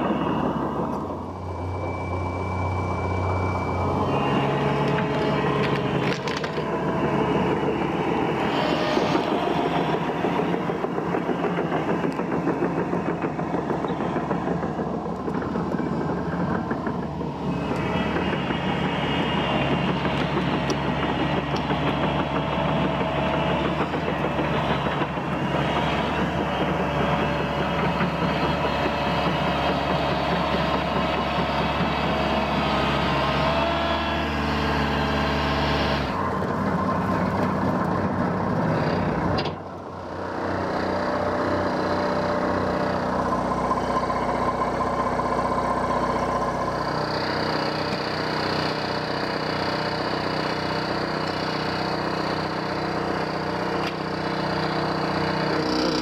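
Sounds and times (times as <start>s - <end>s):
winch engine running: 0.0s - 56.0s.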